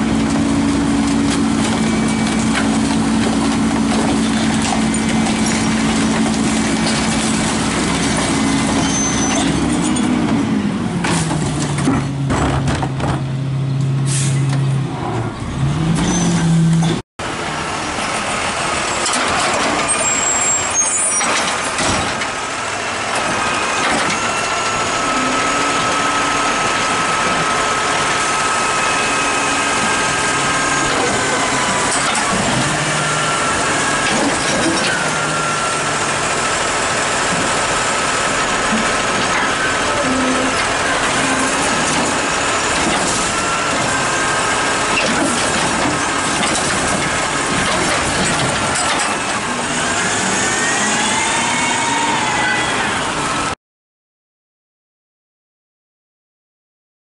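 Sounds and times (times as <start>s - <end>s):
garbage truck engine running: 0.0s - 51.1s.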